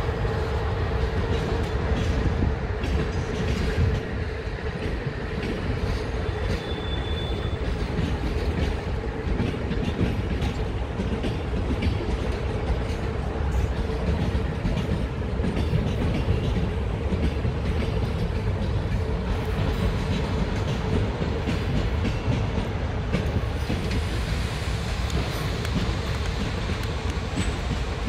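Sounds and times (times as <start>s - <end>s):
train wheels clicking over rail joints: 0.0s - 28.0s.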